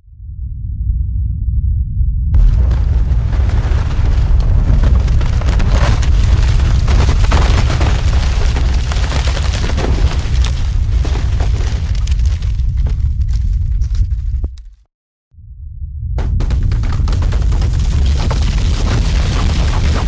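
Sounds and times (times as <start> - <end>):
deep continuous rumble: 0.0 - 14.8, 15.4 - 20.0
crackling clattering impacts: 2.4 - 14.6, 16.2 - 20.0.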